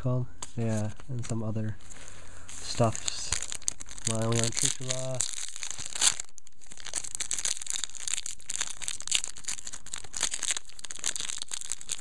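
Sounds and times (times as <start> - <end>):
foil wrapper crinkling: 0.6 - 12.0.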